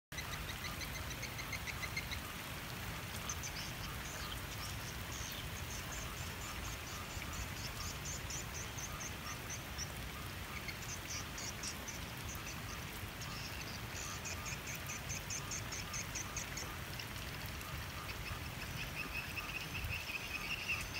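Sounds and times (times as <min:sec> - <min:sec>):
steady rain: 0:00.1 - 0:20.9.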